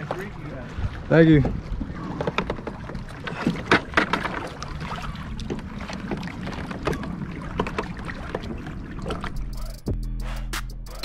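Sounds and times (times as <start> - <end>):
water rushing: 0.0 - 9.9.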